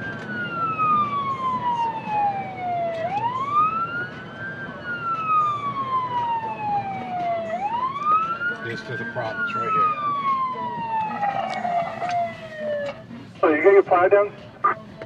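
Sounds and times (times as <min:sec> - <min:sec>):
fire truck siren wailing: 0:00.0 - 0:14.2
low rumble of road noise: 0:00.0 - 0:15.0.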